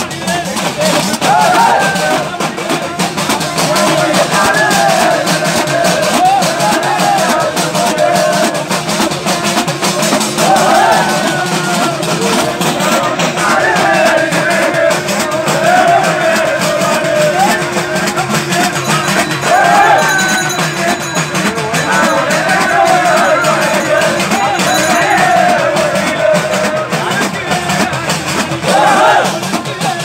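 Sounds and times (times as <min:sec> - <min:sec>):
crowd shouting and calling: 0:00.0 - 0:30.0
frame drums beaten loudly: 0:00.0 - 0:30.0.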